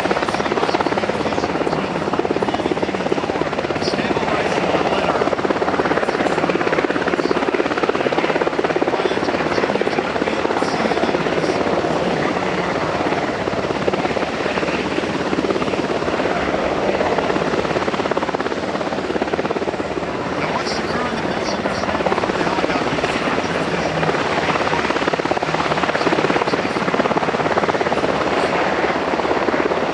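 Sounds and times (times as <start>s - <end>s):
helicopter rotor chopping: 0.0s - 29.9s
loud turbine noise: 0.0s - 29.9s.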